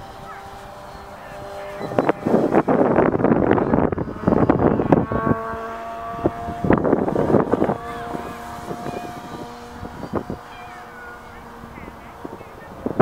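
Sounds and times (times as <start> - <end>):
electric model plane motor whining: 0.0 - 13.0
wind buffeting microphone: 0.0 - 13.0.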